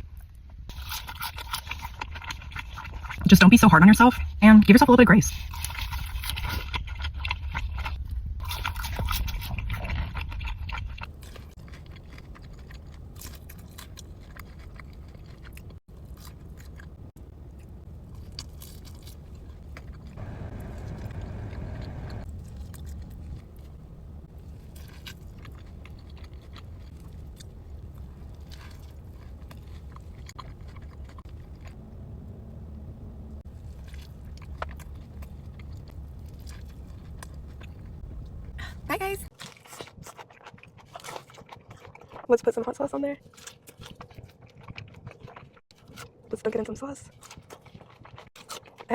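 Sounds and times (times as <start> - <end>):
biting and chewing food: 0.0 - 3.4, 5.3 - 48.9.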